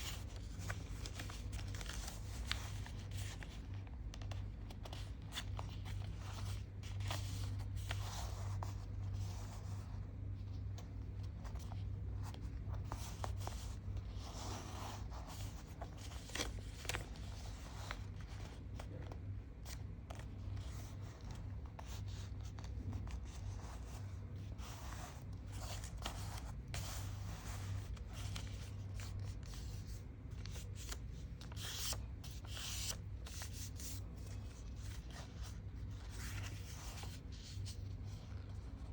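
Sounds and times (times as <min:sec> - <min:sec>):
paper rustling and creasing: 0:00.0 - 0:38.9
steady low hum: 0:00.0 - 0:38.9.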